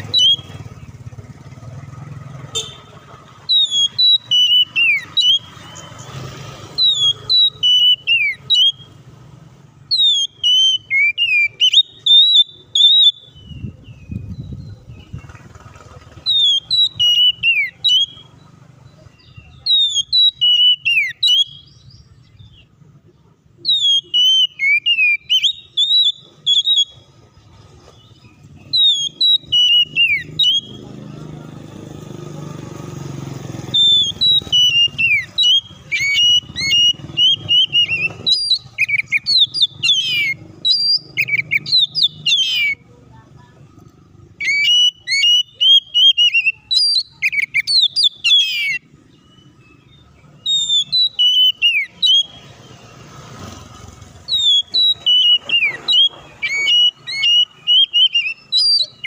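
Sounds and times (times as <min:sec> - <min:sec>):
bird singing whistled phrases: 0:00.0 - 0:01.0, 0:03.5 - 0:09.0, 0:09.8 - 0:15.4, 0:16.1 - 0:18.4, 0:19.0 - 0:22.7, 0:23.6 - 0:27.2, 0:27.9 - 0:31.0, 0:33.7 - 0:42.9, 0:44.3 - 0:53.2, 0:54.2 - 0:59.0.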